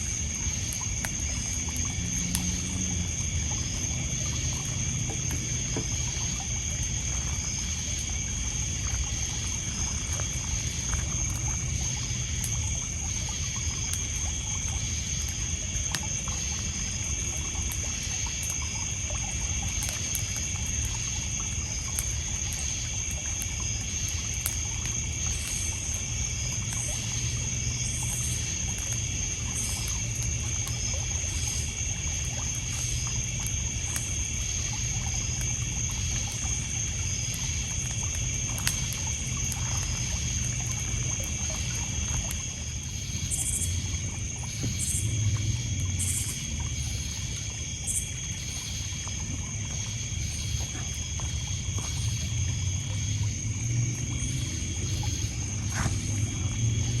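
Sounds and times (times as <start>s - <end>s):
campfire crackling: 0.0s - 57.0s
crickets trilling: 0.0s - 57.0s
water lapping on pebbles: 0.0s - 57.0s.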